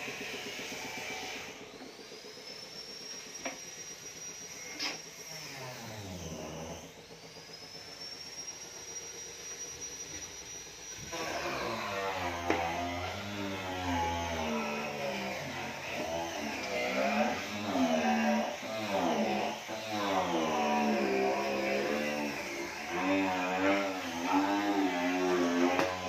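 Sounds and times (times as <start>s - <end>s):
power tool whine: 0.0s - 26.0s.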